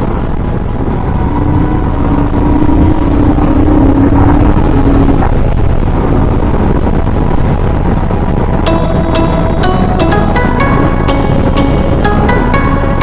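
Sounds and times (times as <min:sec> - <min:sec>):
steady hum: 0:00.0 - 0:13.0
wind rushing over microphone: 0:00.0 - 0:13.0.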